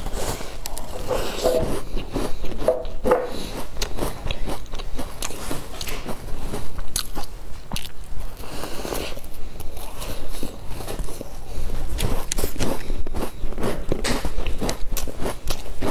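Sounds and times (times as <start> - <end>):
crunching cookie: 0.0 - 15.9.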